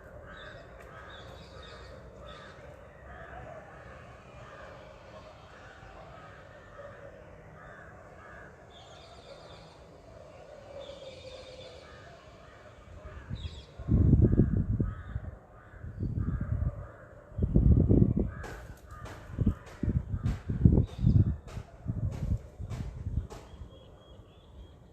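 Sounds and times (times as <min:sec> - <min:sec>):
crows cawing: 0:00.0 - 0:17.4, 0:18.2 - 0:21.4.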